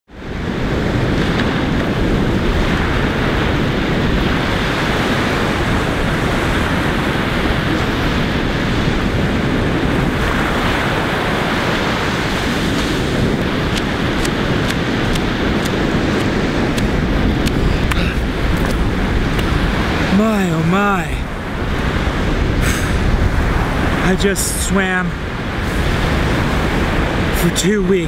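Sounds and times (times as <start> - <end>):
ocean surf washing: 0.1 - 28.0
wind buffeting microphone: 0.1 - 28.0.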